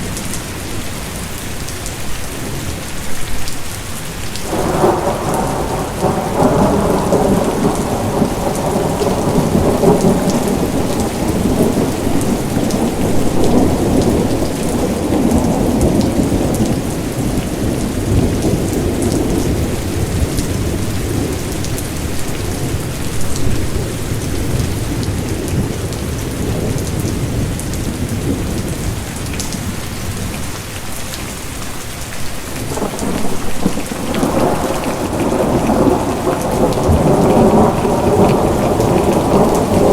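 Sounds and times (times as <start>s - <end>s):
heavy rain falling: 0.0s - 39.9s
rolling thunder: 4.4s - 29.6s, 32.6s - 39.9s.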